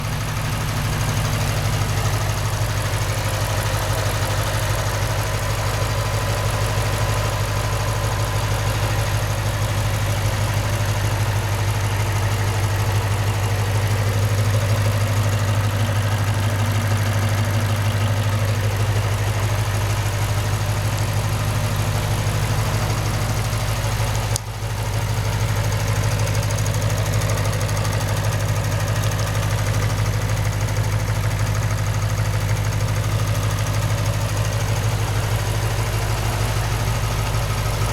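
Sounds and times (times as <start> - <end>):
car engine idling with ticking: 0.0 - 37.9.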